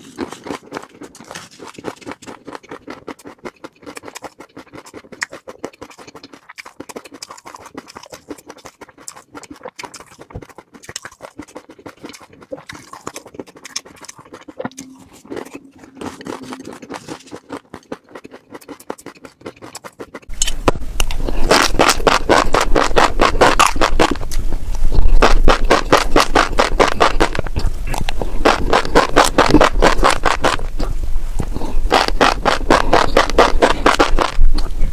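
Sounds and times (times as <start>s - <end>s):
wet clicking and scraping of fish roe: 0.0s - 34.8s.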